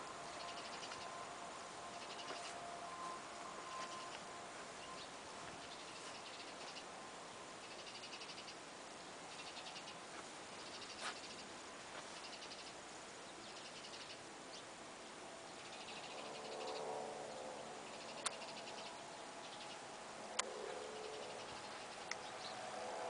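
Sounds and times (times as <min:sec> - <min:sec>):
insect chirping trills: 0:00.0 - 0:12.9, 0:15.6 - 0:16.9, 0:17.8 - 0:22.8
faint hum with steady tones: 0:00.0 - 0:23.0.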